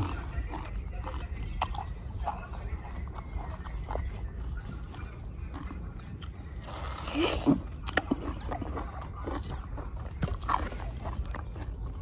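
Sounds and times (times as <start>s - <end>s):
person chewing mango: 0.0s - 12.0s.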